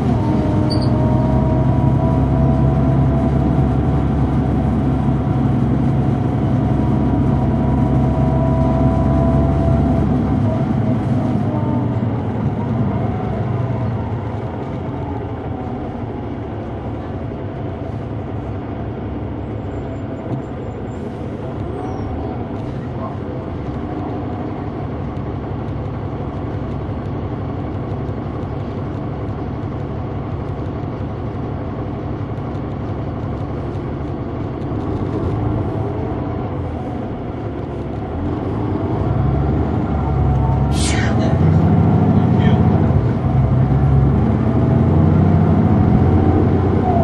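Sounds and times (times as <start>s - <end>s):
bus engine rumble: 0.0s - 47.0s.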